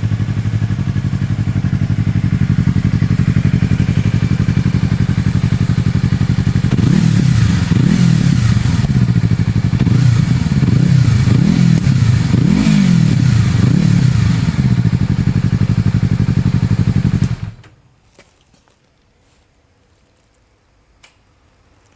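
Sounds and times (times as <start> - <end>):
motorcycle engine idling and revving: 0.0 - 17.8.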